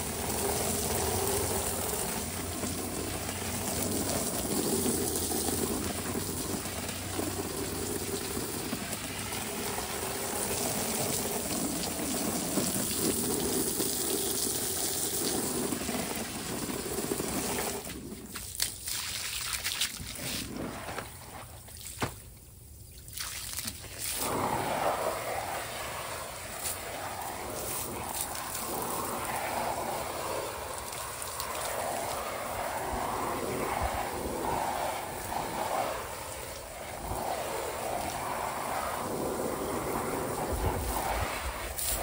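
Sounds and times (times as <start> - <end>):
hose spray splashing on plastic: 0.0 - 42.0.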